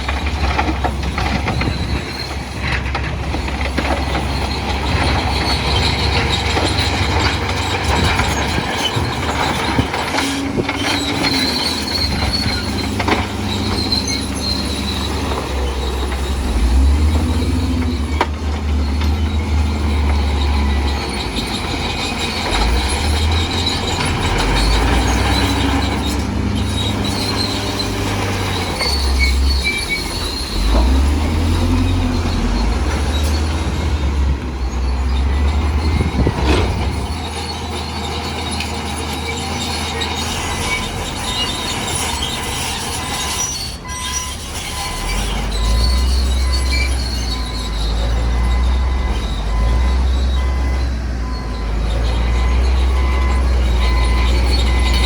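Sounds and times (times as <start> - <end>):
bulldozer diesel engine: 0.0 - 55.0
steel tracks squealing: 0.0 - 55.0.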